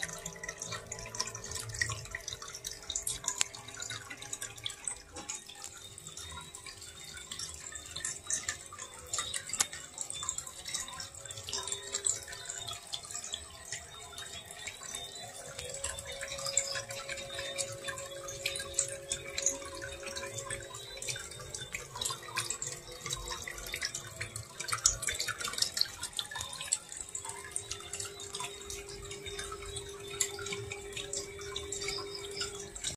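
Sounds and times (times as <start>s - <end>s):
water trickling into aquarium: 0.0s - 32.9s.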